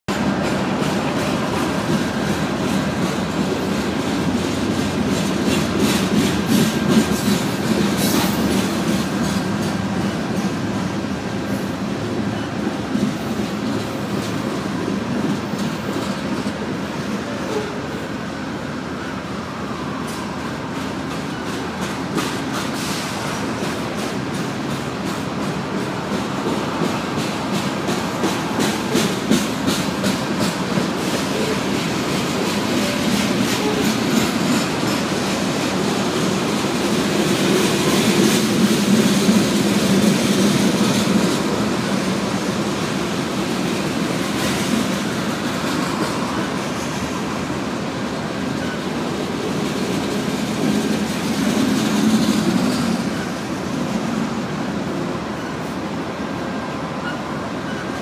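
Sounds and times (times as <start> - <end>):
train wheels rumbling on rail: 0.1 - 58.0.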